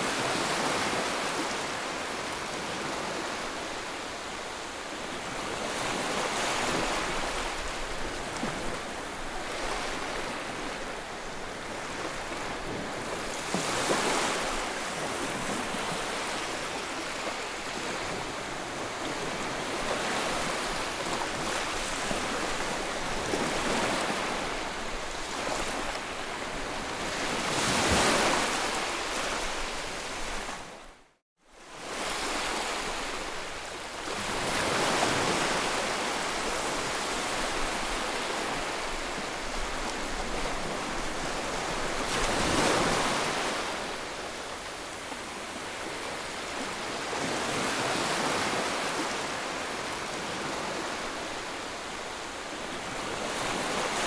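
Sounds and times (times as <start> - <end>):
ocean waves breaking: 0.0 - 30.8, 31.7 - 54.0.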